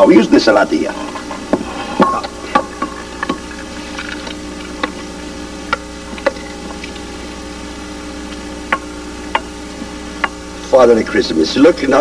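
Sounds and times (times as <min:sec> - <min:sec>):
tape hum: 0:00.0 - 0:11.2.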